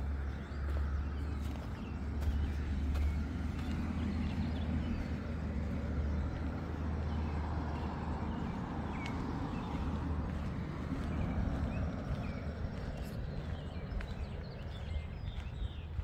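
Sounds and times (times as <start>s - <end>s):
light footsteps: 0.0s - 16.0s.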